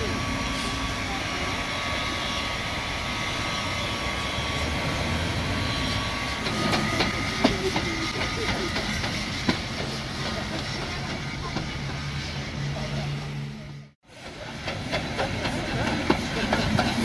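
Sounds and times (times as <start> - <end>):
steam locomotive hiss and hum: 0.0 - 17.0.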